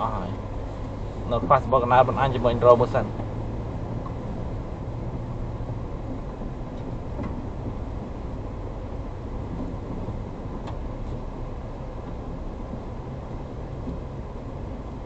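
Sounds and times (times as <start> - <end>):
engine rumble inside car cab: 0.0 - 15.0.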